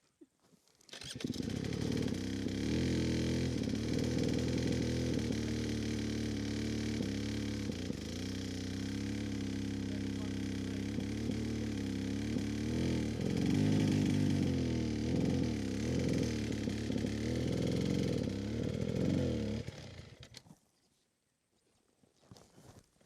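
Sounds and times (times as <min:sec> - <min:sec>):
dirt bike engine revving: 0:00.9 - 0:20.4.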